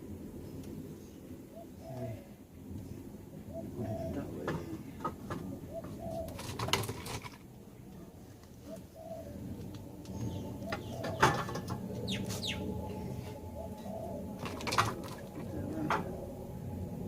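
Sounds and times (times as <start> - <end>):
dove cooing: 0.9 - 7.4, 8.0 - 17.0.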